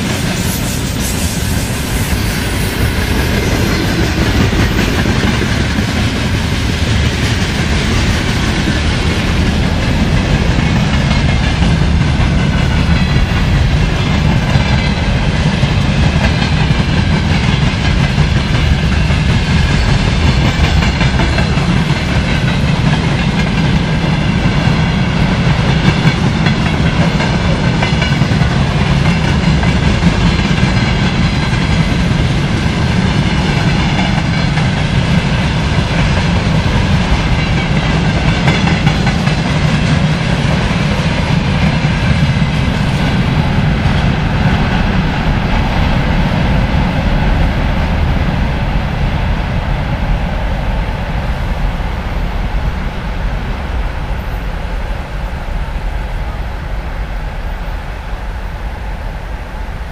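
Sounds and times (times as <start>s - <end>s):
steel wheels clattering on rails: 0.0s - 56.7s
freight wagons rumbling past: 0.0s - 59.9s.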